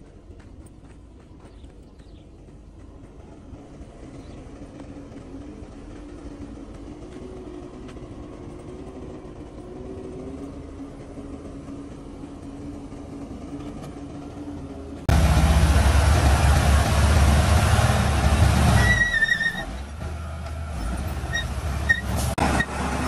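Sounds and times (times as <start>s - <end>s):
distant diesel engine running: 0.0s - 23.0s.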